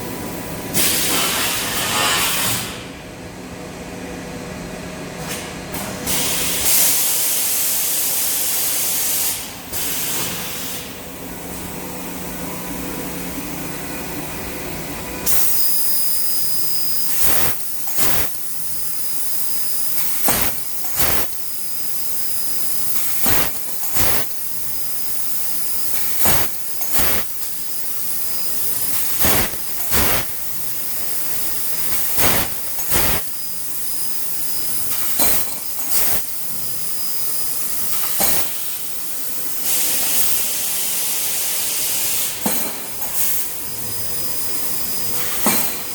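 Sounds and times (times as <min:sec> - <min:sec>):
laser cutter gas hiss: 0:00.7 - 0:02.8, 0:06.0 - 0:11.3, 0:15.2 - 0:45.9.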